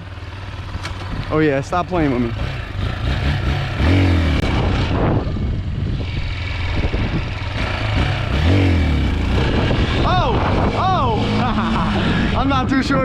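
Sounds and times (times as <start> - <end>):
dirt bike engine revving: 0.4 - 13.0.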